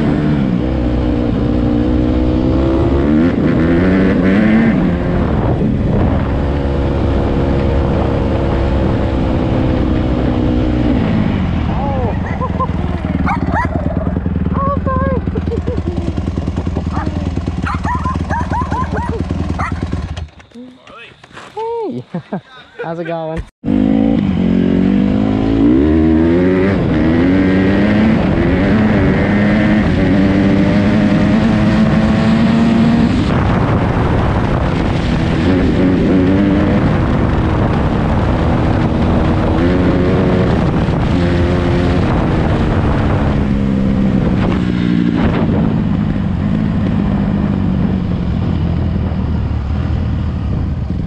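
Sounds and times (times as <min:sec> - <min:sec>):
dirt bike engine revving: 0:00.0 - 0:20.6, 0:23.6 - 0:50.2.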